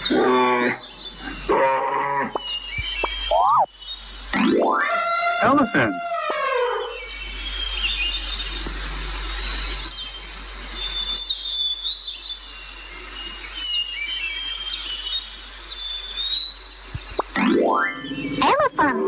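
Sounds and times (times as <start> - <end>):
steady background hiss: 0.0 - 6.1, 6.7 - 19.0
birds chirping and whistling: 0.0 - 19.0.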